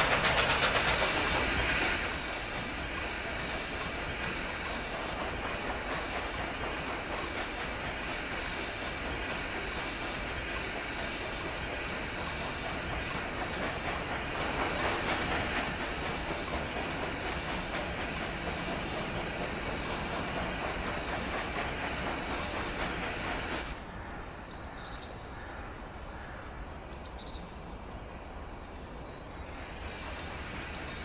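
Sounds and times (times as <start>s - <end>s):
clickety-clack over rail joints: 0.0s - 24.0s, 27.2s - 31.0s
train wheel rumble: 0.0s - 31.0s.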